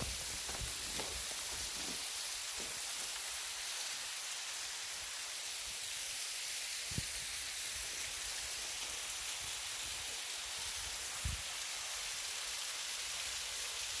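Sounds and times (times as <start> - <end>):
waterfall hiss: 0.0 - 14.0.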